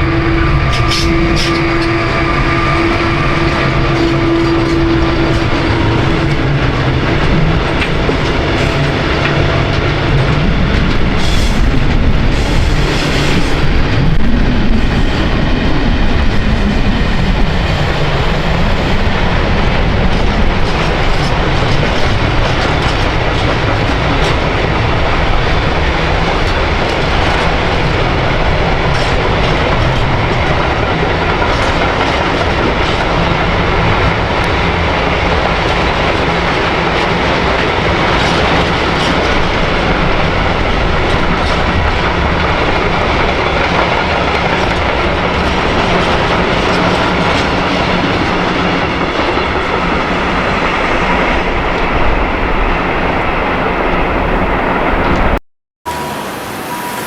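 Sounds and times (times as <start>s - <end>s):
train wheels clicking on rails: 0.0s - 56.1s.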